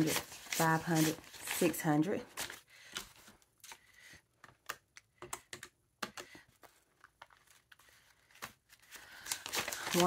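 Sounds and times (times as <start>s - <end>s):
banknotes being handled: 0.0s - 4.6s, 5.2s - 10.0s.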